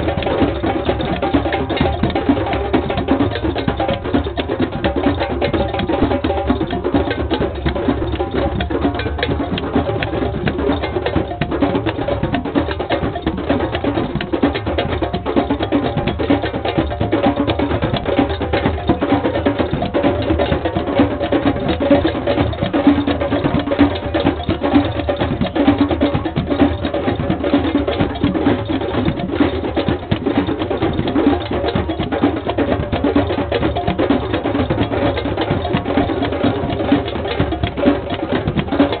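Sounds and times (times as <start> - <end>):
hand drums playing rhythm: 0.0 - 39.0.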